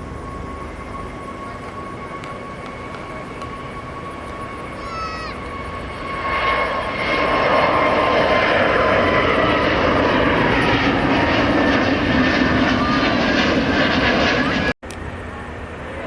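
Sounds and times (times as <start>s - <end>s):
high engine whine: 0.0s - 16.0s
jet engines roaring: 0.0s - 16.0s.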